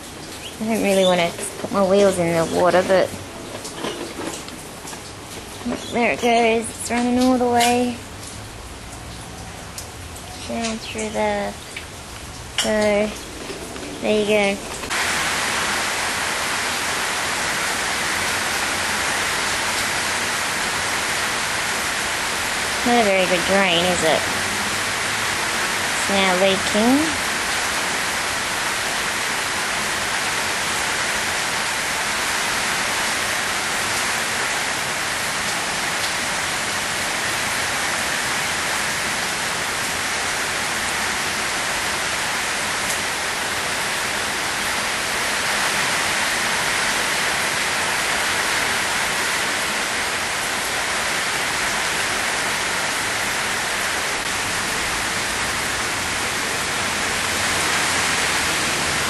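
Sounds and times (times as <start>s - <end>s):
floodwater running: 0.0s - 59.0s
rain falling: 0.0s - 59.0s.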